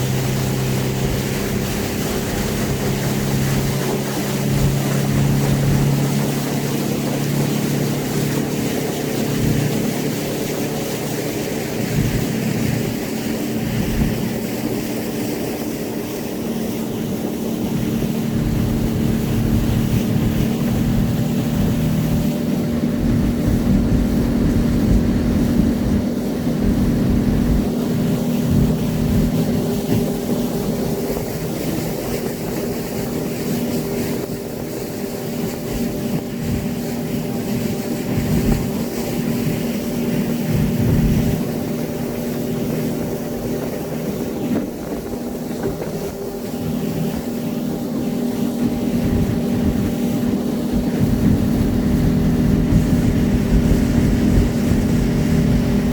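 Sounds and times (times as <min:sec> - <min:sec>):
speedboat engine droning: 0:00.0 - 0:55.9.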